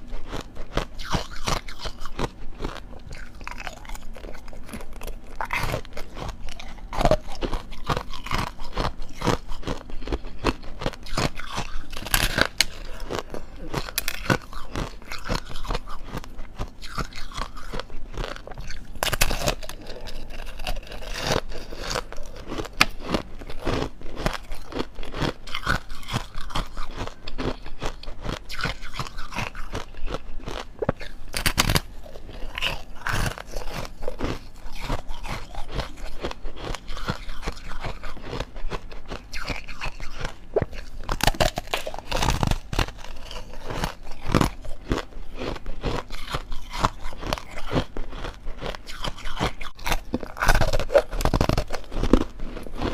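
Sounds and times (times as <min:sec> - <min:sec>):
ice crunching being chewed: 0:00.0 - 0:52.9.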